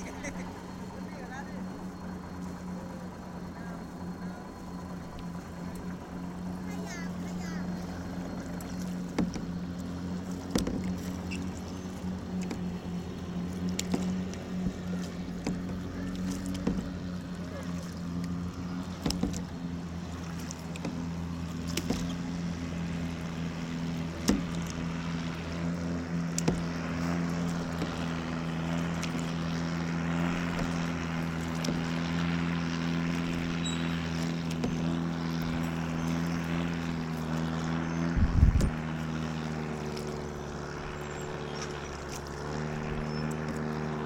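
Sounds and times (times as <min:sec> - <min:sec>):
boat motor running: 0:00.0 - 0:44.0.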